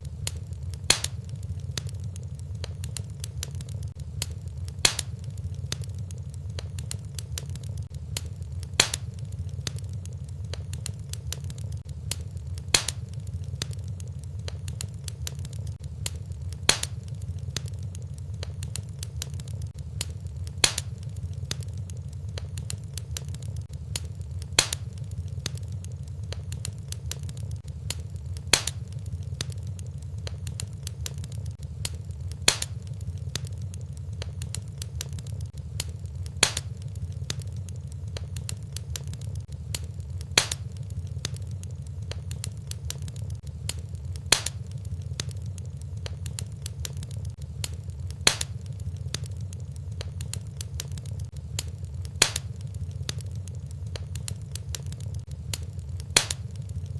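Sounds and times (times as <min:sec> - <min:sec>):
fire crackling: 0:00.0 - 0:56.9
sharp popping of fire: 0:00.0 - 0:56.9.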